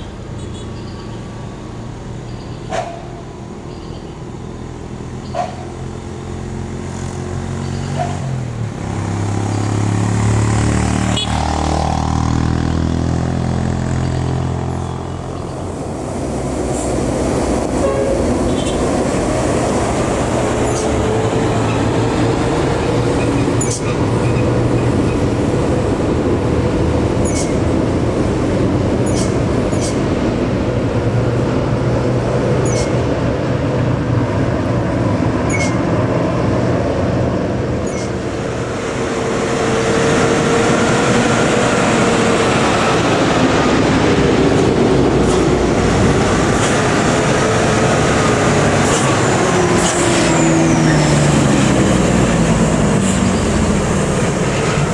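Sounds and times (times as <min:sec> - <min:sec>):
truck heavy rumble with whine: 0:00.0 - 0:54.9.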